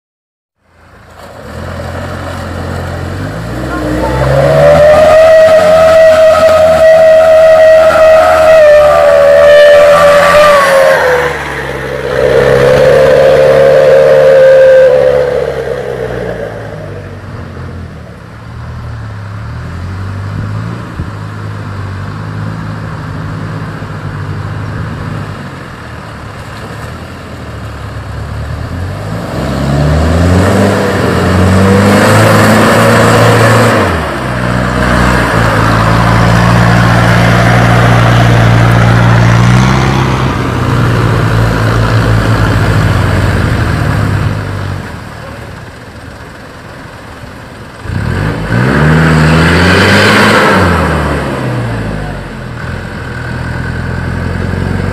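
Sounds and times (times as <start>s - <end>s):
diesel truck engines labouring: 0.6s - 54.9s.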